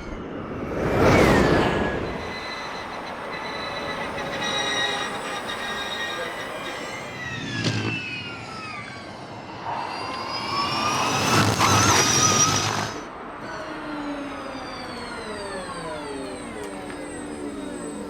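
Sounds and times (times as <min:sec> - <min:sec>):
electric race cars whining past: 0:00.0 - 0:18.0.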